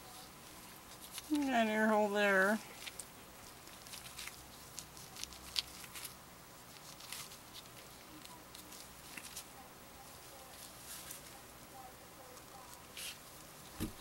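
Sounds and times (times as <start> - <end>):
gloved hands rustling soap: 0.0 - 11.6.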